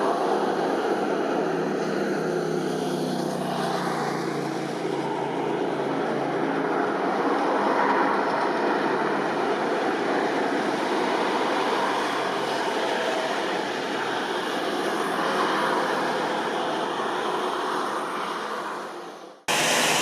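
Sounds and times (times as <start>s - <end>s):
helicopter turbine and rotor: 0.0s - 20.0s.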